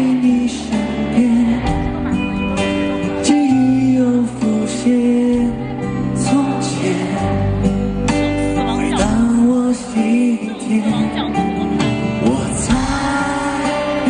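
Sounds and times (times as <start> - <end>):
band accompaniment: 0.0 - 14.0
man singing into a microphone: 0.0 - 14.0.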